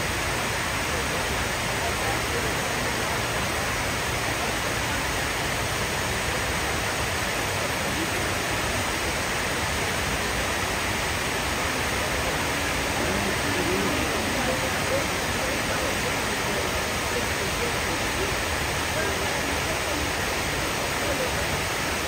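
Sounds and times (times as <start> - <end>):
water cascading down walls: 0.0 - 22.0.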